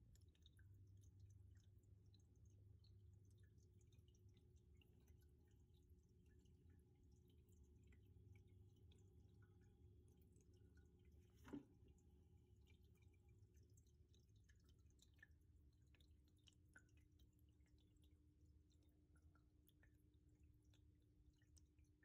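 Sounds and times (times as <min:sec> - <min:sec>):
faint drip-like ticks: 0:00.0 - 0:22.0
faint low hum: 0:00.0 - 0:22.0.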